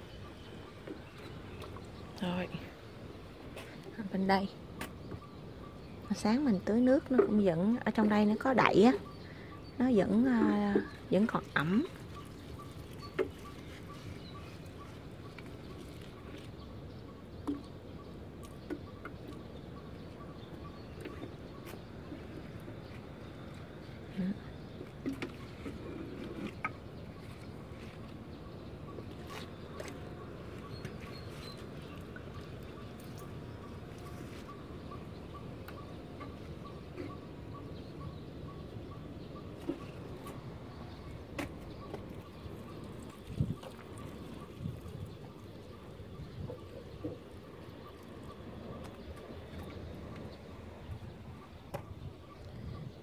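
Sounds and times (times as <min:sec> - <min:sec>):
low outdoor background noise: 0:00.0 - 0:53.0.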